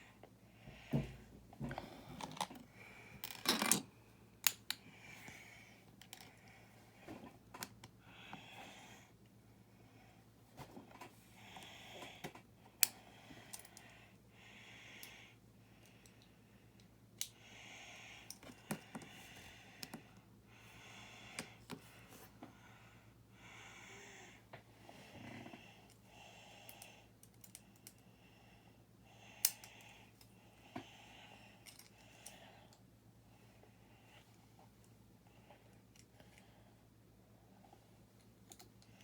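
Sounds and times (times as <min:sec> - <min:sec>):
soft breathing: 0:00.0 - 0:03.4, 0:04.8 - 0:38.0.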